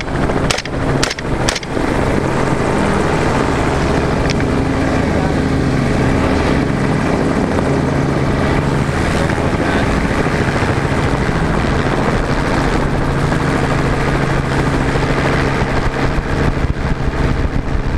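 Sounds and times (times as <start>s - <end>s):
helicopter rotor and engine: 0.0s - 17.9s.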